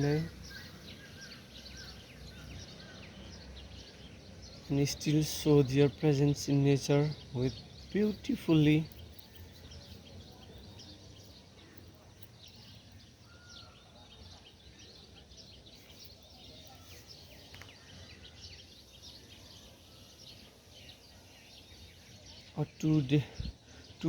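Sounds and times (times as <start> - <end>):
faint birds chirping: 0.0 - 24.0.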